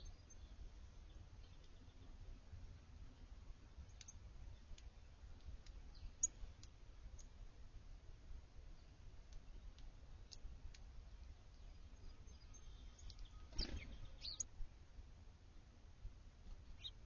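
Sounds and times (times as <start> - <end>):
small birds chirping: 0.0 - 7.6, 8.6 - 14.6, 16.5 - 17.0.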